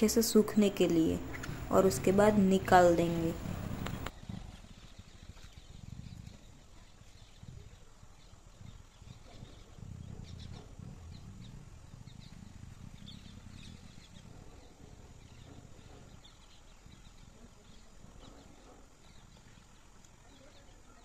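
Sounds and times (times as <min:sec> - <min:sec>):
low uneven rumble: 0:00.0 - 0:21.0.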